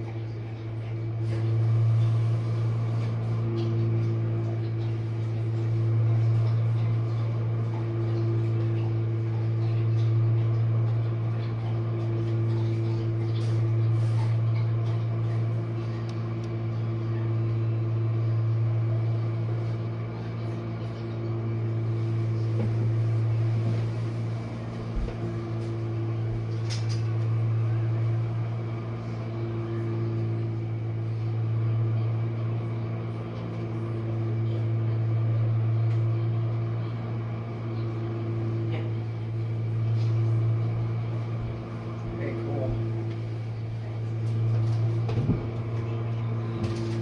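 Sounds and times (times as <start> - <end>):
dishwasher motor hum: 0.0 - 47.0.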